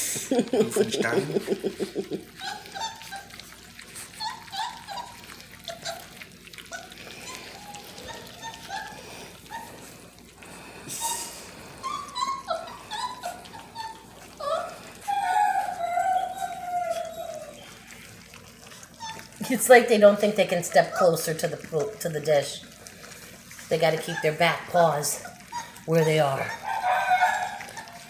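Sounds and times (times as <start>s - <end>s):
puppies lapping and smacking: 0.0s - 28.0s
puppy whining: 0.3s - 28.0s
puppies squeaking and whimpering: 0.6s - 28.0s.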